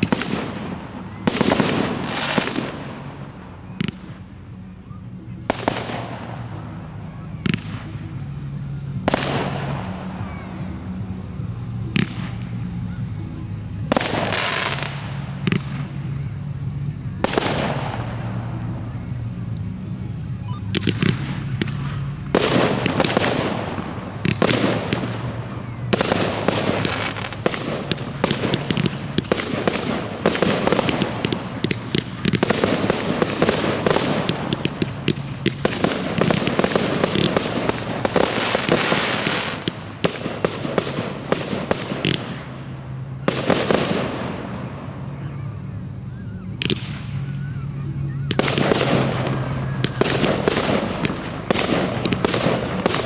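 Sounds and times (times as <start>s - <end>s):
firework shells bursting with bangs: 0.0s - 4.4s, 5.5s - 53.0s
dense firework crackling: 0.0s - 53.0s.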